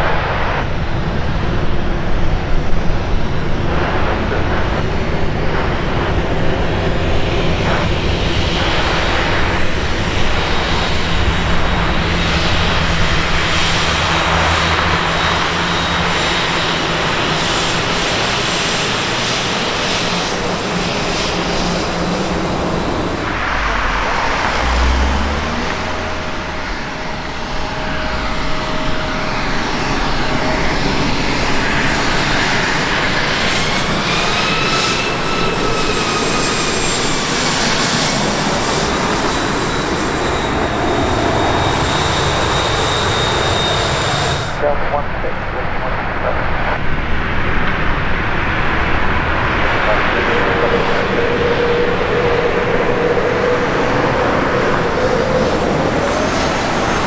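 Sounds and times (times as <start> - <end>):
airliner engines running: 0.0 - 57.0.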